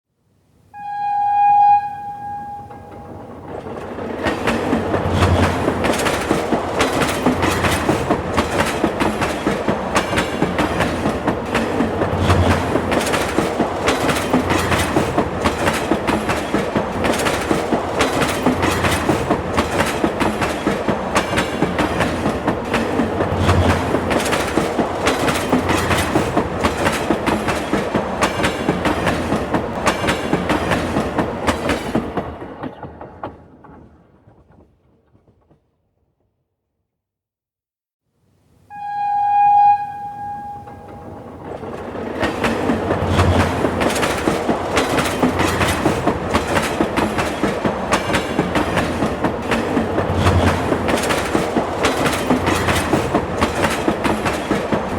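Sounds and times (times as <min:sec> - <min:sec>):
train wheels clattering: 0:02.4 - 0:35.6, 0:40.3 - 0:54.9.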